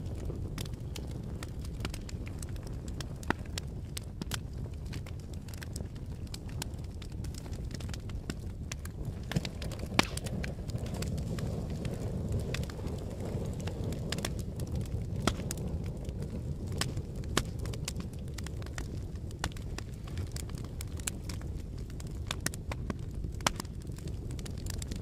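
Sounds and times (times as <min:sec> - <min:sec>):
fire crackling: 0:00.0 - 0:25.0
fire pops and snaps: 0:00.0 - 0:25.0
low rumble of flames: 0:00.0 - 0:25.0.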